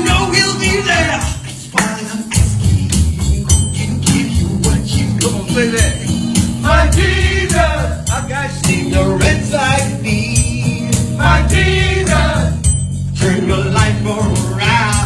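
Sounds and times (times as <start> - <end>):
band with bass and drums: 0.0 - 15.0
voices singing gospel: 0.0 - 15.0.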